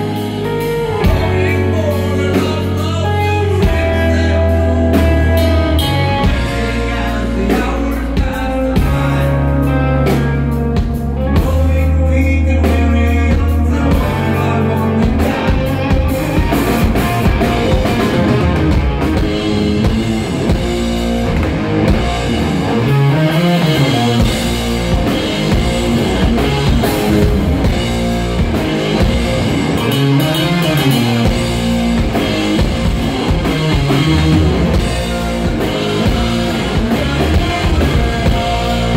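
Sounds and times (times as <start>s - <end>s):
hard rock band playing live: 0.0s - 38.9s
drums hitting: 2.2s - 9.3s, 12.7s - 38.9s.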